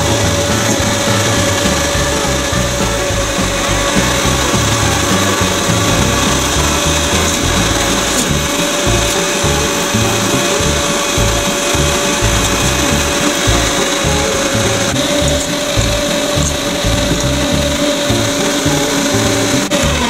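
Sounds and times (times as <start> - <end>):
electric meat grinder whining: 0.0 - 20.0.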